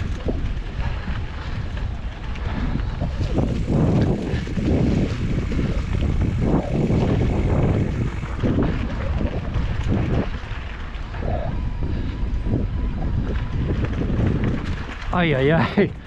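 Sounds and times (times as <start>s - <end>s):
bike rattling over rocky trail: 0.0s - 11.4s, 12.7s - 16.0s
wind buffeting microphone: 0.0s - 16.0s.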